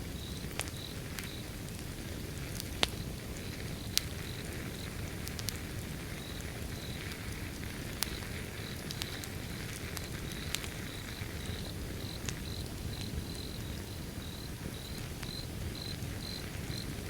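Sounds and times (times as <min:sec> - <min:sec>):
faint cricket chirping: 0:00.0 - 0:01.6, 0:02.5 - 0:17.0
wood fire crackling: 0:00.0 - 0:17.0.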